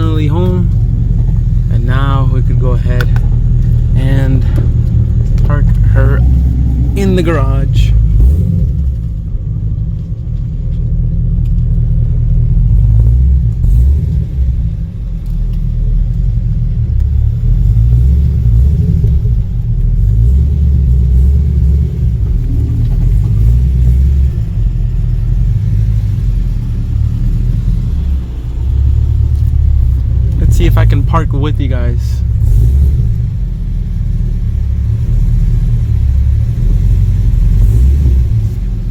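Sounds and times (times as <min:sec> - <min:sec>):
car engine rumbling: 0:00.0 - 0:38.9.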